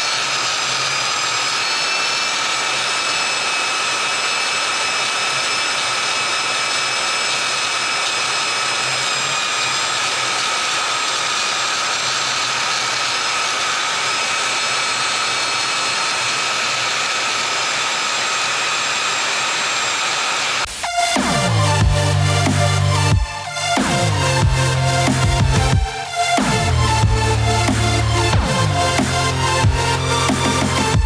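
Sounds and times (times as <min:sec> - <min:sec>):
power tool motor whining: 0:00.0 - 0:31.0.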